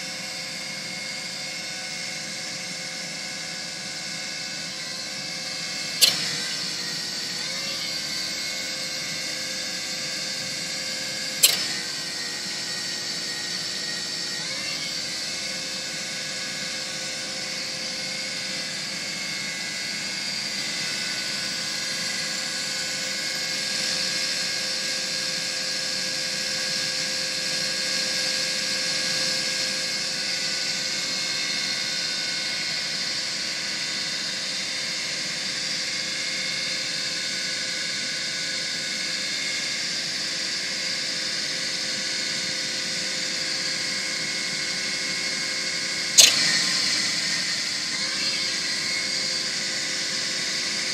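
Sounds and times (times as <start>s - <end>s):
stump grinder wheel whining: 0.0s - 37.6s, 38.5s - 50.9s.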